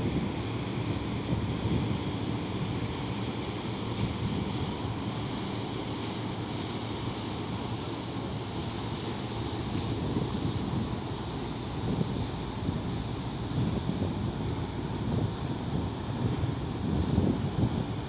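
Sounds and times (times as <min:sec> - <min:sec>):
rushing water: 0:00.0 - 0:18.0
wind buffeting microphone: 0:00.0 - 0:18.0.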